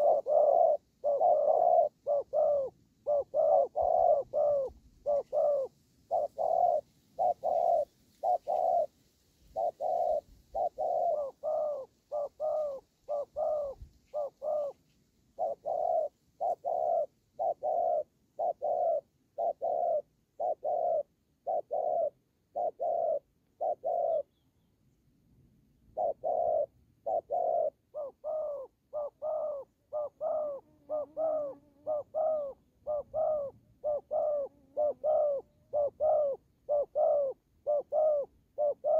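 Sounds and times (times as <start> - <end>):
doves cooing: 0.0 - 24.4, 25.9 - 38.9.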